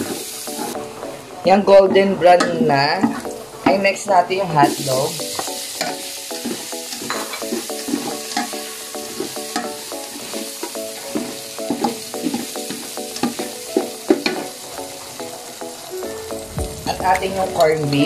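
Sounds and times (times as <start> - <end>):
food sizzling in a pot: 0.0 - 1.2, 2.4 - 18.0.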